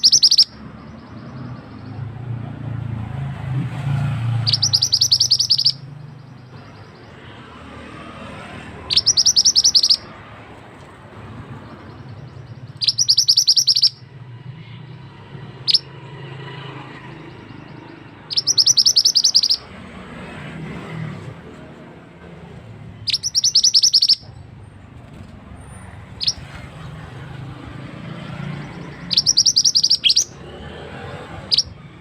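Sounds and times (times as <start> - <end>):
songbird singing sharp notes: 0.0 - 2.6, 3.4 - 10.3, 11.5 - 19.8, 22.6 - 30.6, 31.4 - 31.9.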